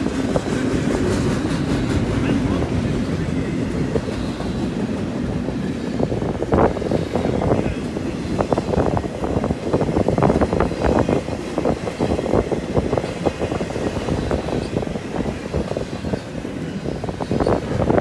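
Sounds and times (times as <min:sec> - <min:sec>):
train wheels rumbling and clattering: 0:00.0 - 0:18.0.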